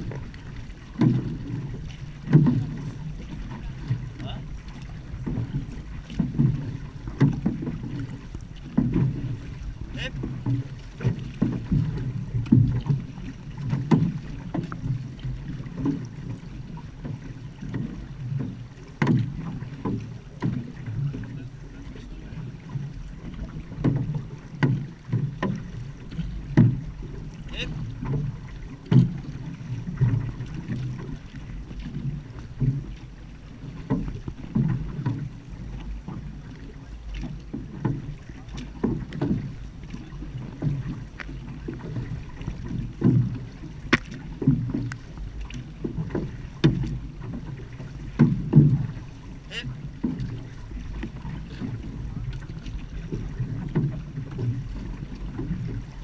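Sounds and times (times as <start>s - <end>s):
paddle splashing: 0.0s - 56.0s
water sloshing against hull: 0.0s - 56.0s.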